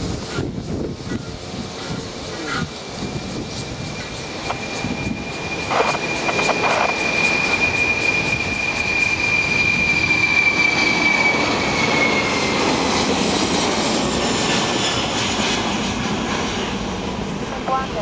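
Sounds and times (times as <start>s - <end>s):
jet engine roar and whine: 0.0s - 18.0s.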